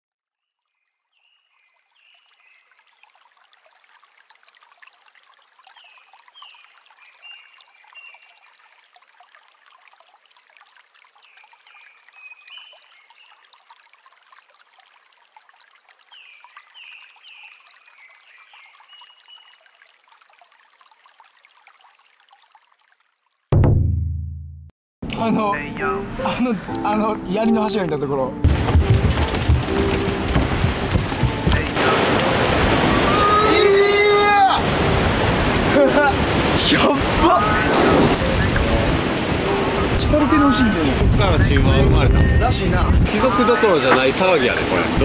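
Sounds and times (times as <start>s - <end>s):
small stream trickling: 0.2s - 23.6s, 28.6s - 41.8s, 42.4s - 45.0s.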